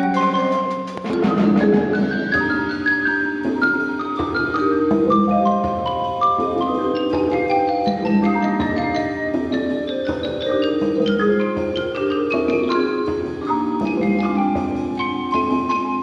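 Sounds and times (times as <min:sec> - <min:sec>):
percussion ensemble playing: 0:00.0 - 0:16.0.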